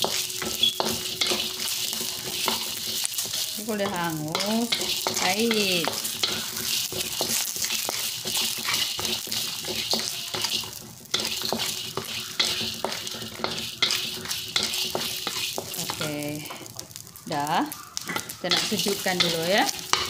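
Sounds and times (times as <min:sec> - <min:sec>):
wooden spatula scraping pan: 0:00.0 - 0:17.0, 0:18.0 - 0:20.0
food sizzling in oil: 0:00.0 - 0:20.0.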